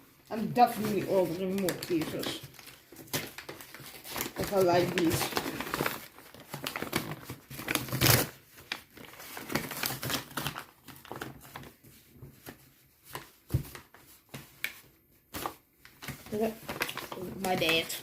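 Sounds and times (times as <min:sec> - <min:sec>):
packaging rustling and crinkling: 0:00.4 - 0:18.0.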